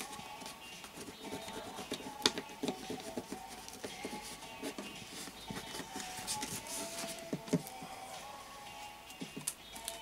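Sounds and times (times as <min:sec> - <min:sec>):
faint music: 0:00.0 - 0:10.0.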